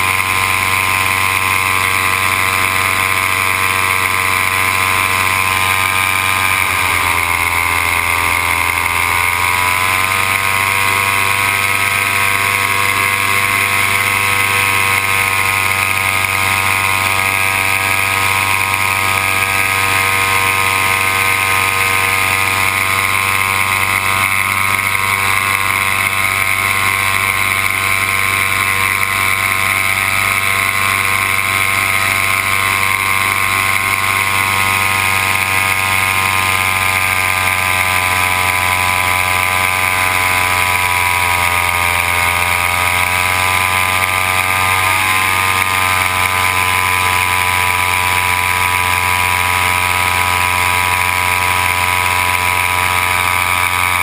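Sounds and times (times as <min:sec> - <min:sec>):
paramotor engine and propeller: 0:00.0 - 0:54.0.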